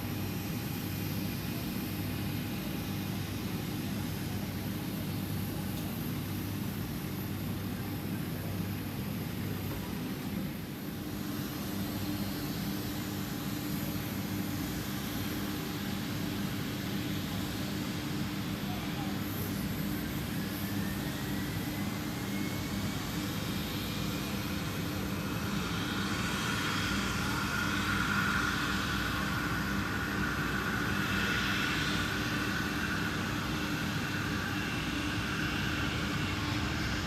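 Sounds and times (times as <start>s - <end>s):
airplane engines running: 0.0s - 37.0s
high engine whine: 0.0s - 37.0s.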